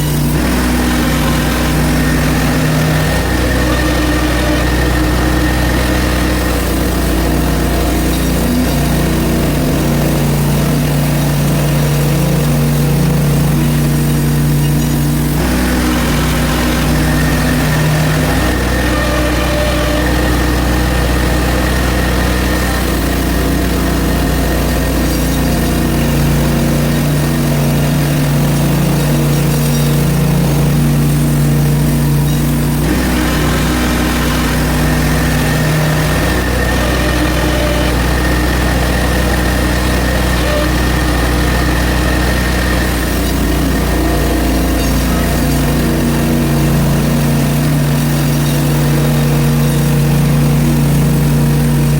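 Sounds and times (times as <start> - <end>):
bandsaw mill engine running: 0.0 - 51.9
saw blade whine cutting log: 0.0 - 51.9.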